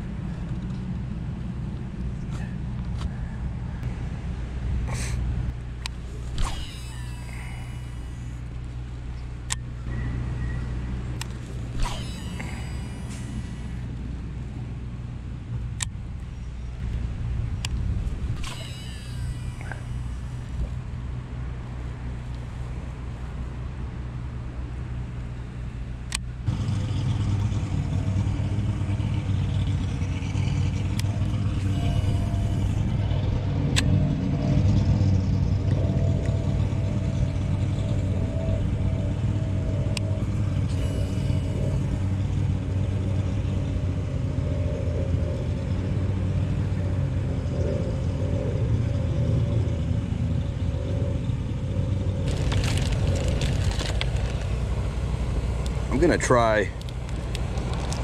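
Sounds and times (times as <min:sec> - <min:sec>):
motor drone with whine: 0:00.0 - 0:58.0.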